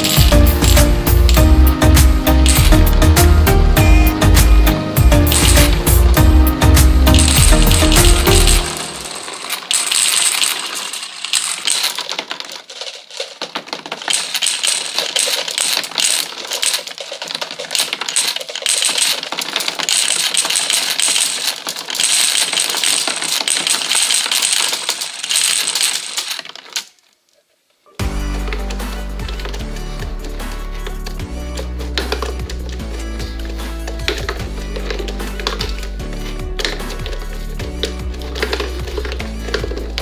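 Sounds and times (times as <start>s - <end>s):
marbles clattering on a track: 0.0s - 3.3s, 5.2s - 27.2s, 28.4s - 40.0s.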